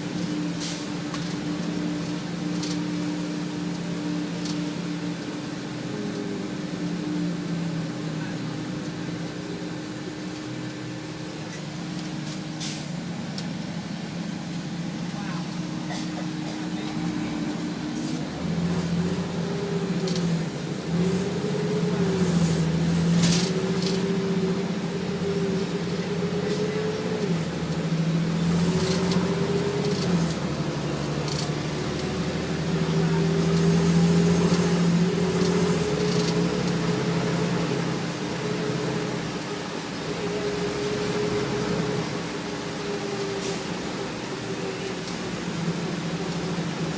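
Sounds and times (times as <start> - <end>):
bus engine accelerating: 0.0 - 46.9.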